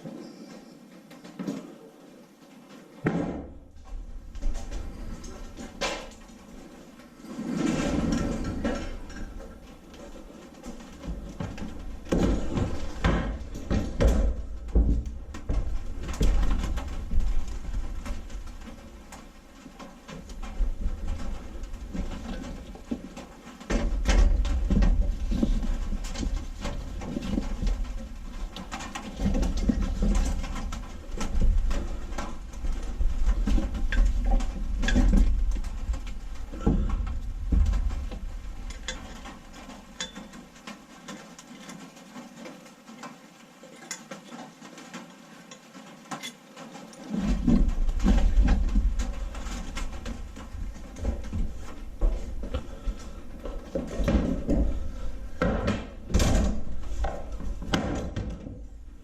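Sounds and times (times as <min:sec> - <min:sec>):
handling knocks and clicks: 0:02.6 - 0:59.0.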